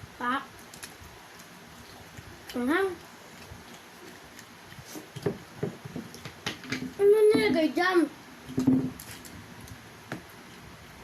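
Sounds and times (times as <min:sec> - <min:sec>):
faint eating noises: 0:00.1 - 0:11.0.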